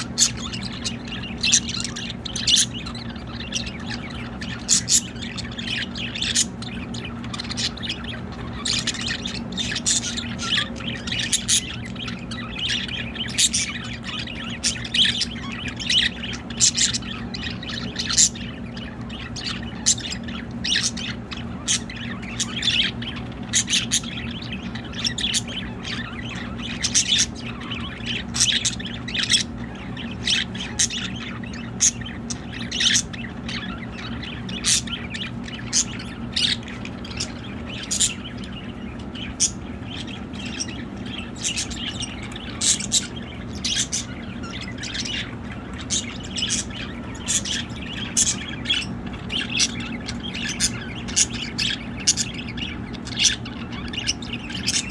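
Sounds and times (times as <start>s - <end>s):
budgerigars chirping and squawking: 0.0s - 54.9s
steady low hum: 0.0s - 54.9s.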